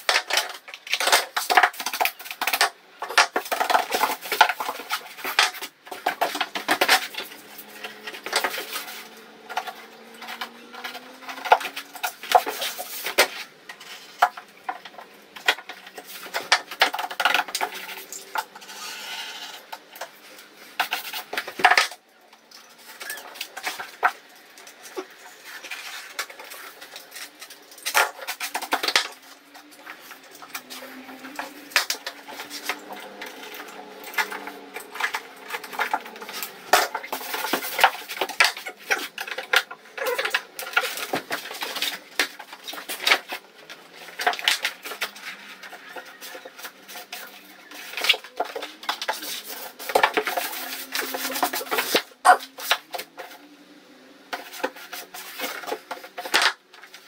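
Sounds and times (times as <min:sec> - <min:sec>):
wallpaper rustling and clicking: 0:00.0 - 0:18.8, 0:19.5 - 0:53.5, 0:54.3 - 0:57.0.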